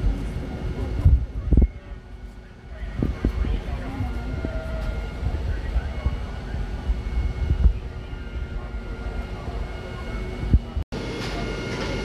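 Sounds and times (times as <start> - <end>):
wind buffeting microphone: 0.0 - 10.9
fire engine running: 0.0 - 12.0.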